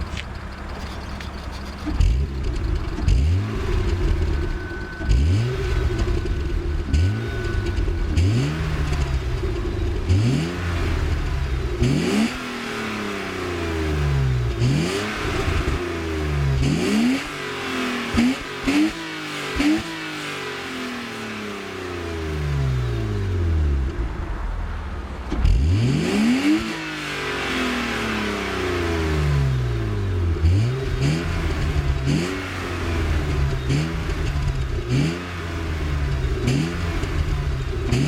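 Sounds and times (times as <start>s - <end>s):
car engine revving in blips: 0.0s - 24.3s, 25.0s - 38.0s.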